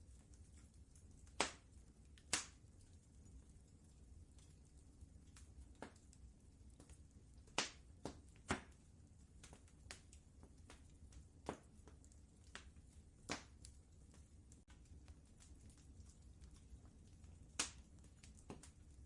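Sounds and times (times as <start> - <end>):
faint low rumble: 0.0 - 19.0
wood fire crackling: 0.0 - 19.0.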